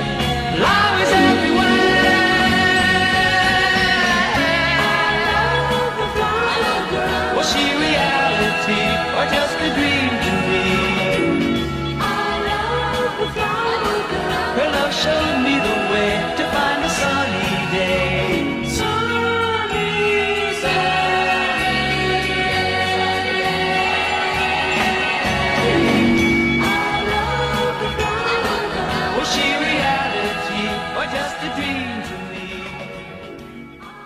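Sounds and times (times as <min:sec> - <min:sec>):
pop song with group vocal harmonies: 0:00.0 - 0:33.5.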